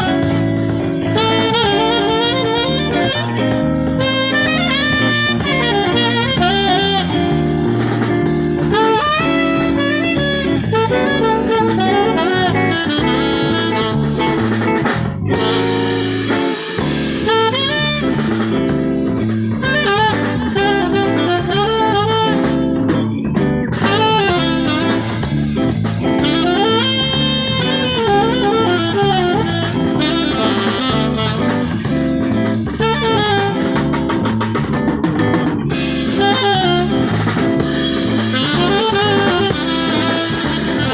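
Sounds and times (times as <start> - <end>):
saxophone melody: 0.0 - 34.9, 35.6 - 40.9
bass: 0.0 - 40.9
drum kit: 0.0 - 40.9.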